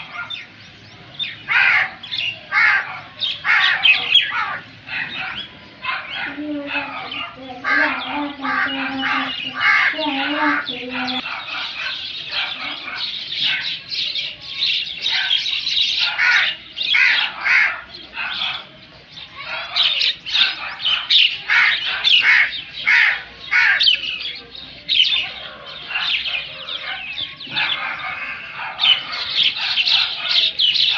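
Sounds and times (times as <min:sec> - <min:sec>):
crows cawing: 0:01.2 - 0:13.8, 0:15.0 - 0:24.4, 0:25.1 - 0:30.9.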